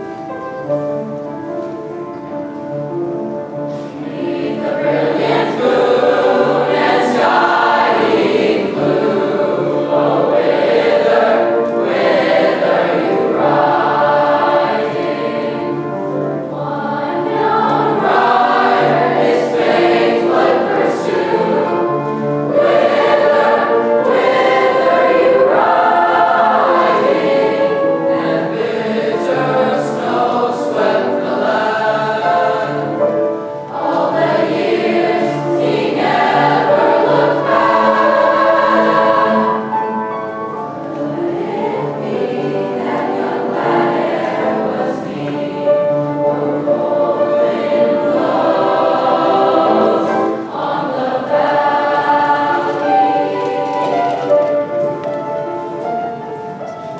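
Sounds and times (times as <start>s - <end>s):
choir singing: 3.7s - 56.9s.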